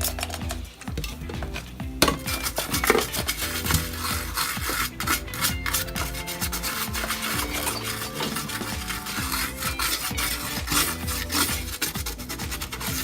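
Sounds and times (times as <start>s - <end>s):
scrubbing circuit board: 0.0s - 13.0s.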